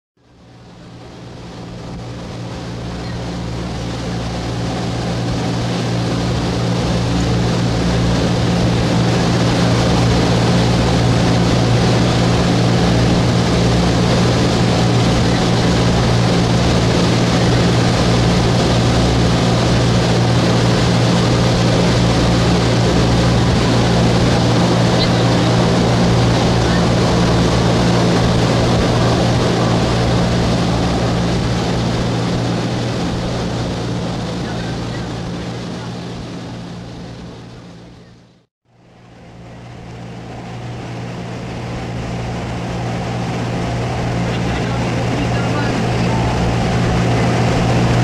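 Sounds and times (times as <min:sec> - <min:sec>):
boat engine droning: 0:00.2 - 0:48.0.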